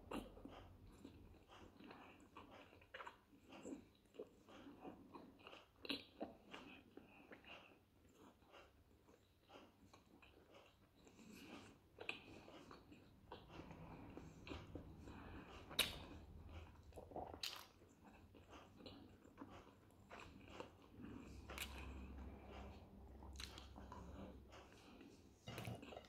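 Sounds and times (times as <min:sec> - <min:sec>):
man chewing: 0:00.0 - 0:26.0.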